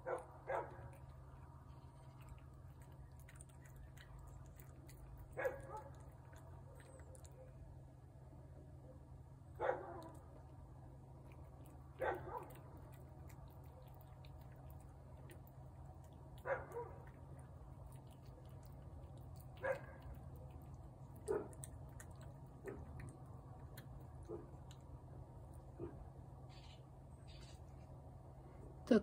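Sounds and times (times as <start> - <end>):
cat chewing food: 0.0 - 8.4, 9.3 - 26.5.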